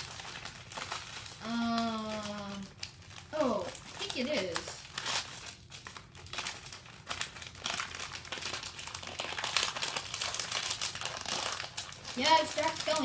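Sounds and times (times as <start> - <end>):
foil bag crinkling: 0.0 - 13.0.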